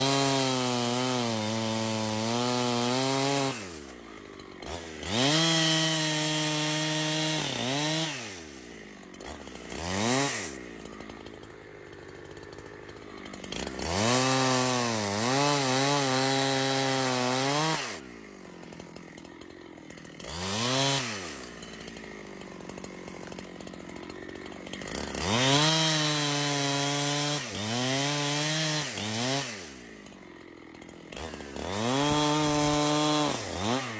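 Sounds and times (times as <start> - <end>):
chainsaw cutting wood: 0.0 - 33.9
chainsaw idling: 0.0 - 33.9
chainsaw throttle blips: 0.0 - 33.9.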